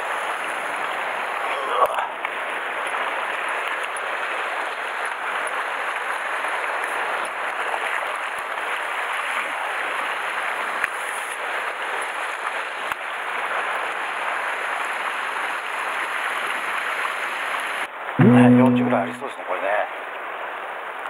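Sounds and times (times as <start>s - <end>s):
sea water splashing over rocks: 0.1s - 17.9s.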